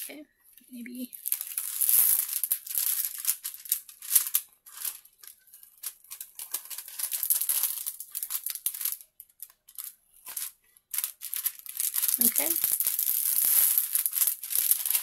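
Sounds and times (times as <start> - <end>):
plastic film crinkling: 1.0 - 15.0.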